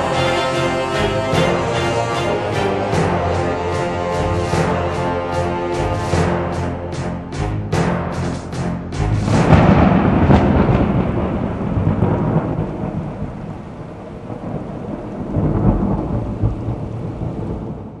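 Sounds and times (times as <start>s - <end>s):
steady rain: 0.0s - 18.0s
thunder rolling: 0.0s - 18.0s.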